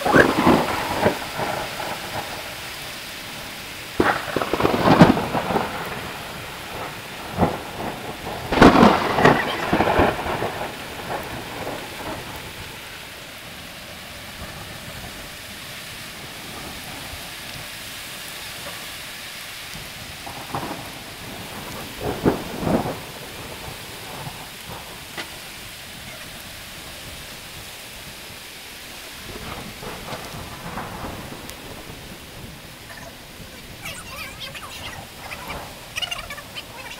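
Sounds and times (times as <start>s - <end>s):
sharp hail hits: 0.0s - 12.9s, 19.6s - 36.9s
hail and rain falling: 0.0s - 36.9s.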